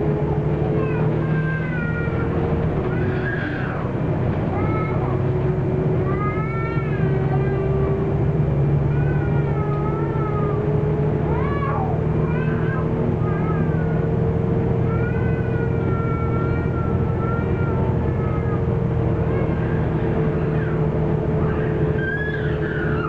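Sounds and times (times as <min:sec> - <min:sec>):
diesel bus engine drone: 0:00.0 - 0:23.0
road noise: 0:00.0 - 0:23.0.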